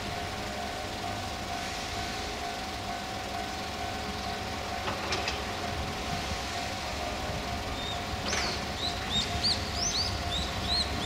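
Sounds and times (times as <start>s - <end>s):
idling vehicles rumbling: 0.0s - 11.0s
level crossing alarm ringing: 0.0s - 11.0s.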